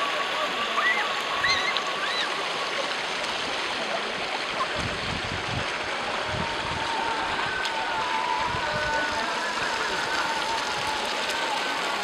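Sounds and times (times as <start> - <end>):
water running and gurgling: 0.0 - 12.0.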